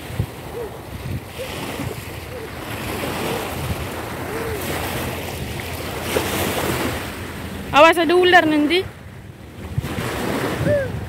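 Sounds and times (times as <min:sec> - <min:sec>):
beach surf washing: 0:00.0 - 0:11.0
wind buffeting microphone: 0:00.0 - 0:11.0.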